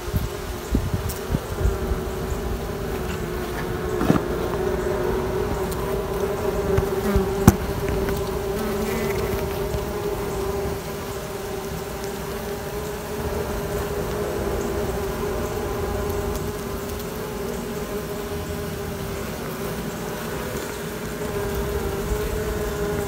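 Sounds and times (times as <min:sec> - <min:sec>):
honey bees humming: 0:00.0 - 0:23.0.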